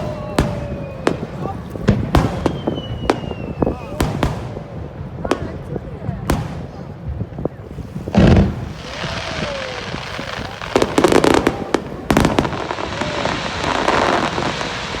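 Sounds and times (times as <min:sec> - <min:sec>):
fireworks crackling: 0:00.0 - 0:15.0
fireworks deep boom: 0:00.0 - 0:15.0
fireworks sharp bangs: 0:00.0 - 0:15.0.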